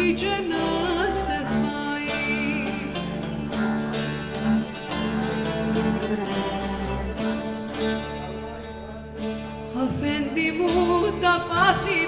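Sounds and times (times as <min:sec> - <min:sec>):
plucked lute: 0:00.0 - 0:12.0
sustained viola and bass: 0:00.0 - 0:12.0.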